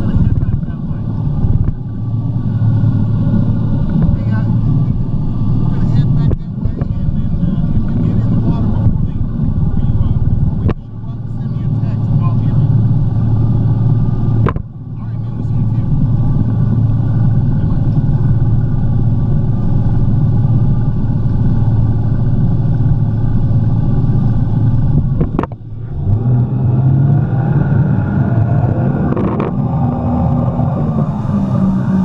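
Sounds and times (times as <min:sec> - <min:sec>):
jet ski engine running: 0:00.0 - 0:32.0.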